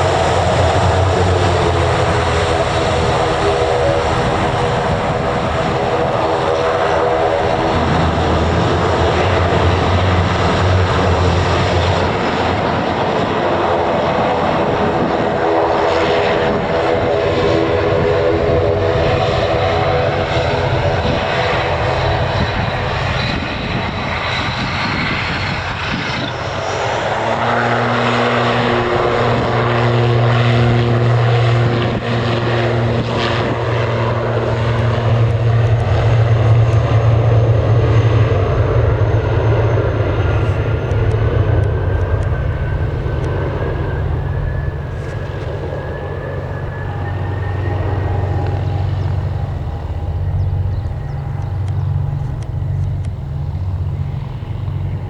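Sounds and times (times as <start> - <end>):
propeller aircraft engines drone: 0.0 - 55.0
rising high whine: 0.0 - 55.0.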